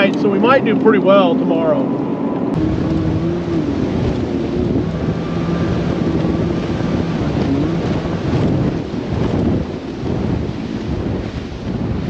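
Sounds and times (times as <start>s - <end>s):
outboard engine running: 0.0s - 12.0s
wind buffeting microphone: 0.0s - 12.0s.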